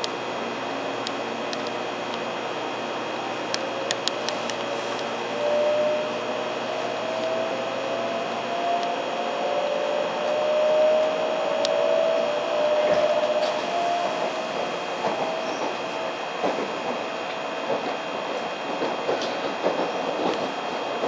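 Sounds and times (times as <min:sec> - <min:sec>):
train running rumble and hiss: 0:00.0 - 0:21.0
train whine: 0:00.0 - 0:21.0.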